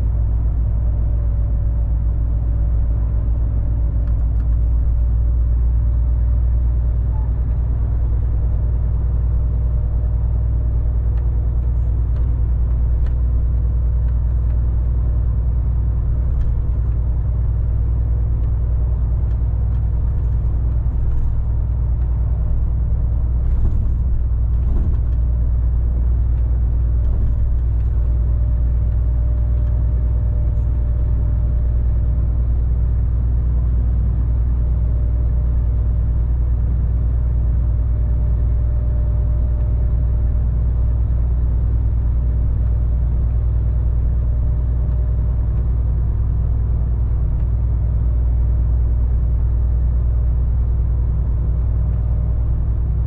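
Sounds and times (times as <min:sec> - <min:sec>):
lorry diesel engine drone: 0:00.0 - 0:53.0
road noise: 0:00.0 - 0:53.0.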